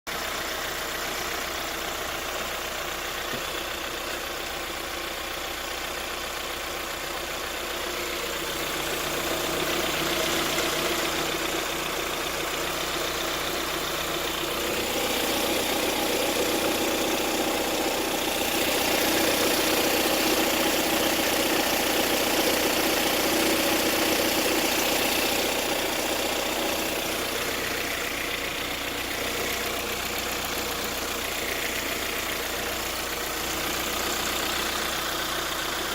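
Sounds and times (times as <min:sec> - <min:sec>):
engine running with clatter: 0:00.1 - 0:35.9.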